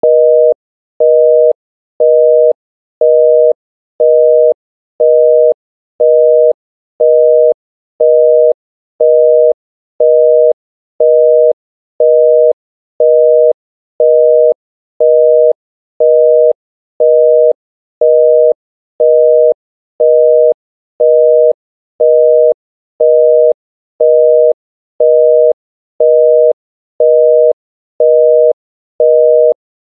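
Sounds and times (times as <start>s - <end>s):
telephone busy signal beeping: 0.0s - 29.6s.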